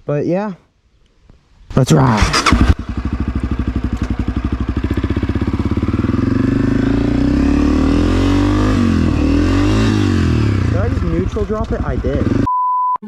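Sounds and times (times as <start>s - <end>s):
dirt bike engine revving: 1.9s - 12.5s.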